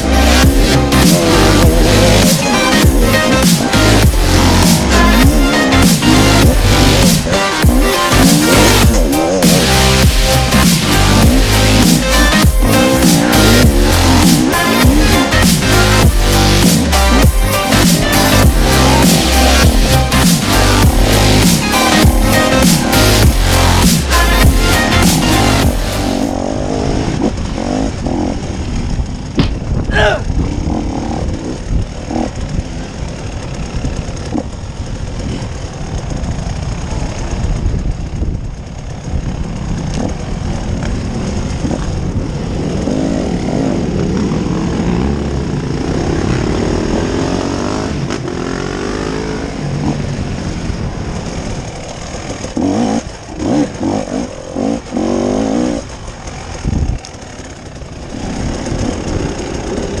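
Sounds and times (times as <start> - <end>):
heavy low rumble: 0.0 - 54.2
off-road vehicle engine revving: 0.0 - 60.0.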